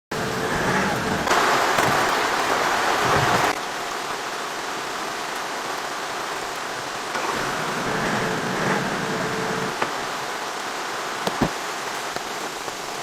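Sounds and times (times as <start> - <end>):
steady rain falling: 0.1 - 13.0.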